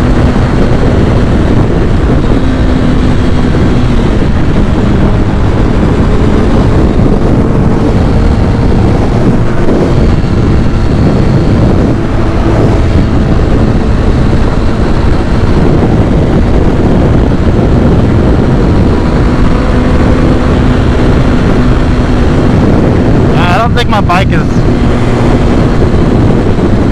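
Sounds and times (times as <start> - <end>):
motorcycle engine running: 0.0 - 26.9
wind noise on microphone: 0.0 - 26.9.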